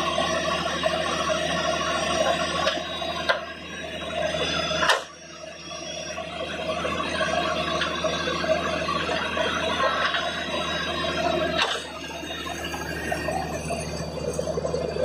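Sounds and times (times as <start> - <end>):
drilling rig engine running: 0.0 - 15.0.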